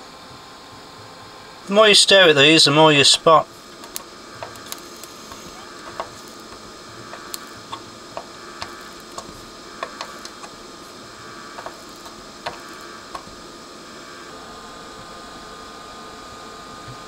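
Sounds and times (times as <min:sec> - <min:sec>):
steady background hiss: 0:00.0 - 0:17.0
solder ticking and crackling: 0:00.3 - 0:14.3.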